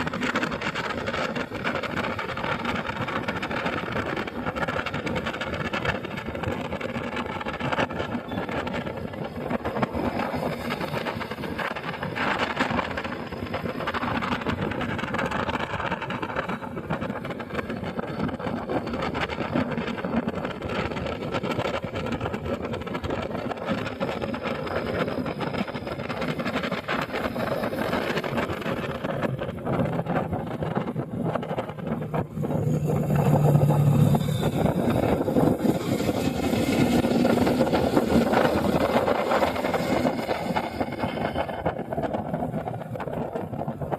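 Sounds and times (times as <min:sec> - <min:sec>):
low engine hum: 0:00.0 - 0:43.9
motorcycle engine: 0:00.0 - 0:43.9.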